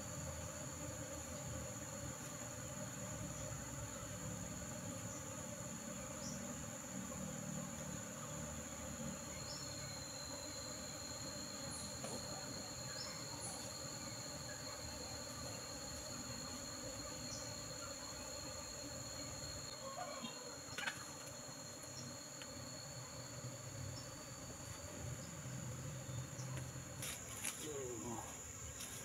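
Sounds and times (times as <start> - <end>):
insects calling: 0.0 - 29.0.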